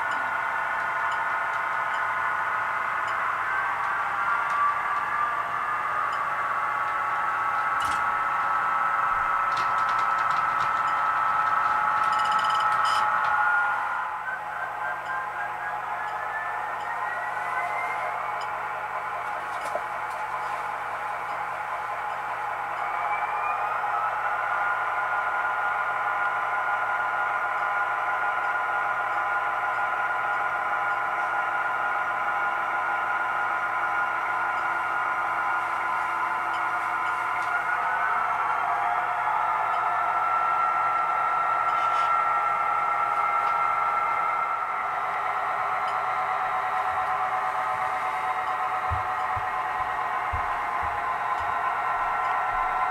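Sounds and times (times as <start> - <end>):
model locomotive whine: 0.0 - 52.9.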